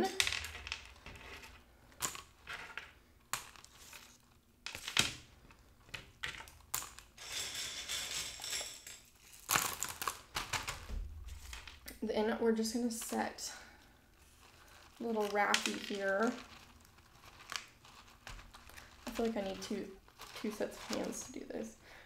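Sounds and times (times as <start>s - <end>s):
clay pebbles rattling into pot: 0.0s - 12.0s, 12.6s - 22.0s.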